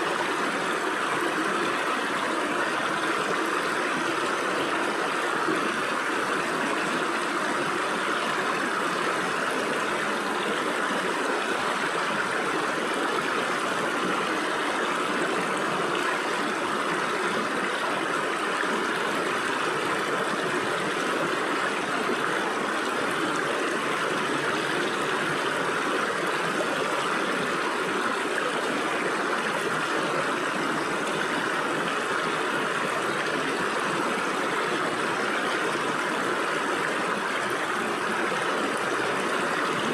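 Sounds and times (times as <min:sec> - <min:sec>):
stream water babbling over rocks: 0:00.0 - 0:39.9.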